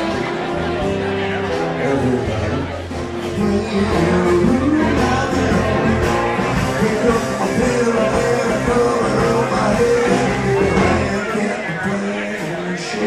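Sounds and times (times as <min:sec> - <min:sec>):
acoustic guitars: 0:00.0 - 0:13.0
fiddle: 0:00.0 - 0:13.0
live country band playing: 0:00.0 - 0:13.0
person singing: 0:01.4 - 0:13.0.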